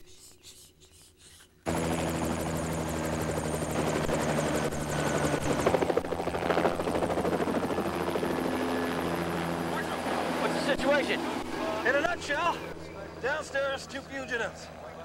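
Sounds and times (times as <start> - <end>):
helicopter rotor beating: 1.6 - 15.0
helicopter engine whine: 1.7 - 15.0.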